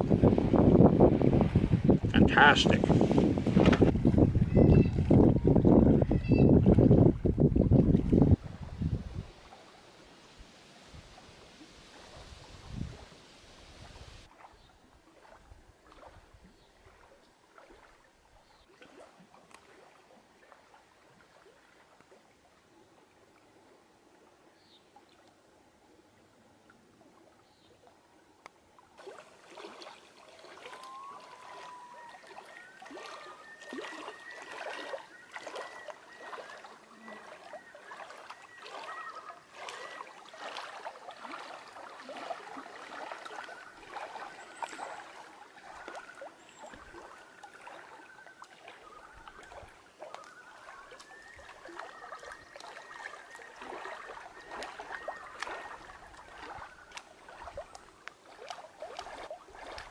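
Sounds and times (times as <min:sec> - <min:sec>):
water lapping and splashing: 0:00.0 - 0:59.9.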